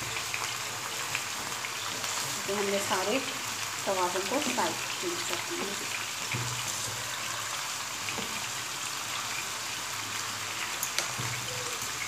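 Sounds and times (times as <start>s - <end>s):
meat frying in hot oil: 0.0s - 12.0s.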